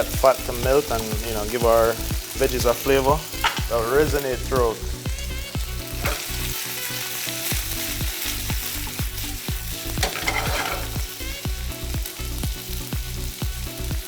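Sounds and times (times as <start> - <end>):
ham sizzling in a pan: 0.0 - 14.0.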